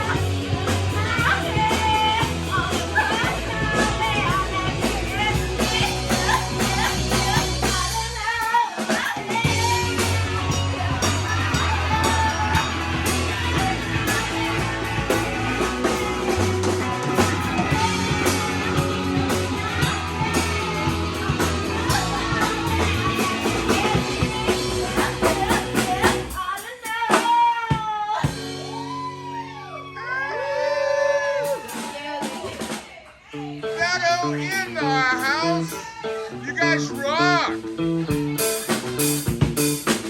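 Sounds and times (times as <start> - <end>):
rock music with singing: 0.0 - 40.0.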